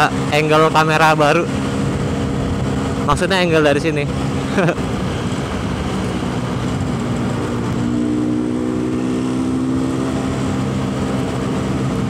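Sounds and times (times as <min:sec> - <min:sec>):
motorcycle two-stroke engine running: 0:00.0 - 0:12.0.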